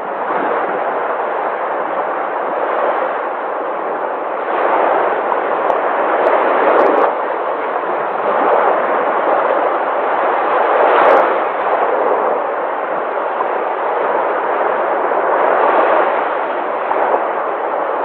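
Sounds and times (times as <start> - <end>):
sea waves breaking: 0.0 - 18.0.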